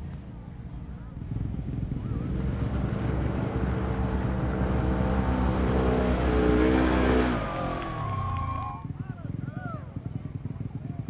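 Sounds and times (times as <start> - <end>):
utv engine running hard: 0.0 - 11.0.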